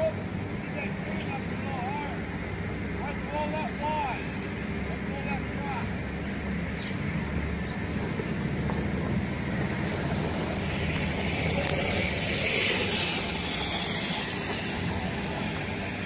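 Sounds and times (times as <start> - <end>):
car engine running: 0.0 - 16.0
hissing rush: 0.0 - 16.0.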